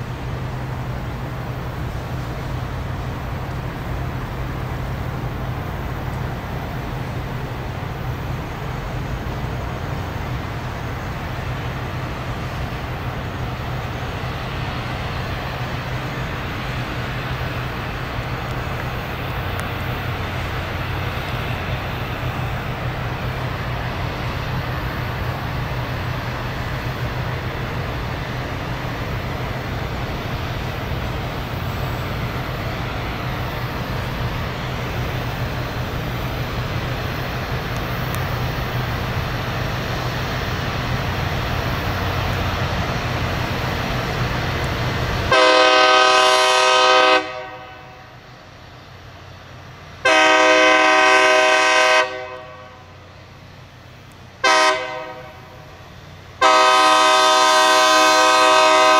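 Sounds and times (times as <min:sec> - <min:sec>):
diesel engines droning: 0:00.0 - 0:58.9
grinding stones hissing on rail: 0:00.0 - 0:58.9.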